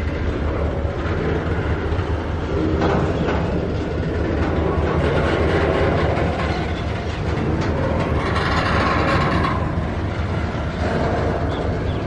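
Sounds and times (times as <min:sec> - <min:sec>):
freight train wheels rumbling: 0:00.0 - 0:12.0
wheels clicking over track: 0:00.0 - 0:12.0.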